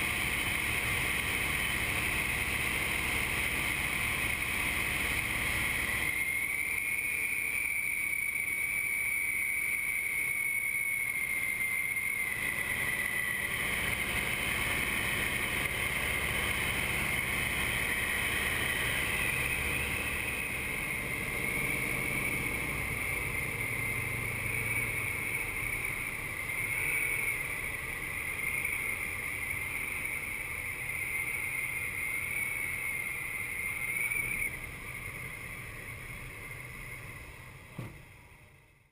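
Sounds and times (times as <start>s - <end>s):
aircraft engine and propeller drone: 0.0s - 38.9s.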